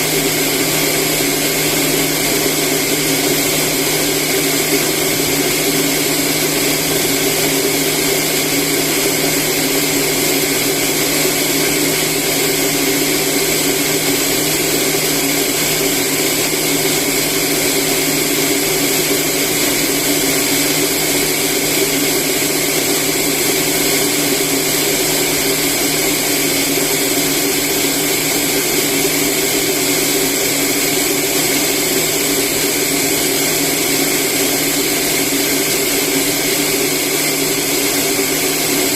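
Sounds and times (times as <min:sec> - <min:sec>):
rice polishing machine whirring: 0:00.0 - 0:38.9.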